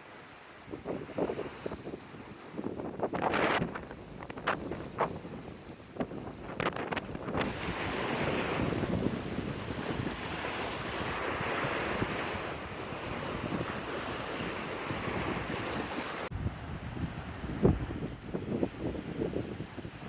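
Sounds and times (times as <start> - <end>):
waves breaking on beach: 0.0 - 20.0
wind buffeting microphone: 0.7 - 20.0.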